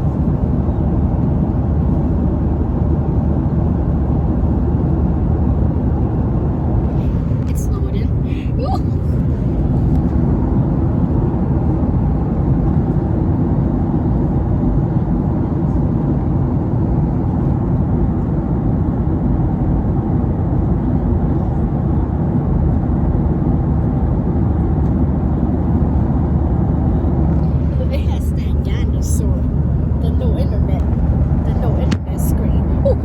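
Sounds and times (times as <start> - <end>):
airplane cabin drone: 0.0 - 33.0.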